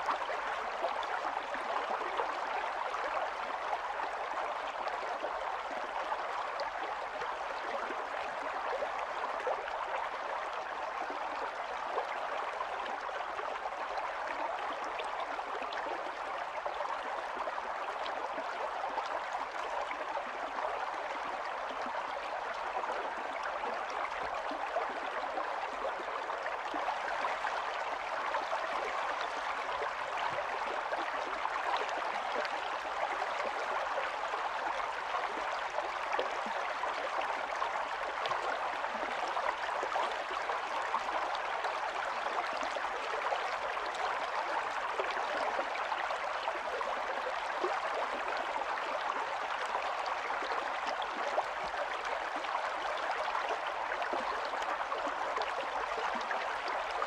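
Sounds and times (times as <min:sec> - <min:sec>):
stream burbling over stones: 0:00.0 - 0:57.0.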